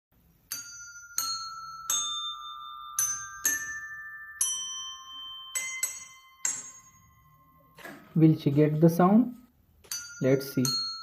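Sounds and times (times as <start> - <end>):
bell-like mallet melody: 0.5 - 8.7, 9.8 - 11.0.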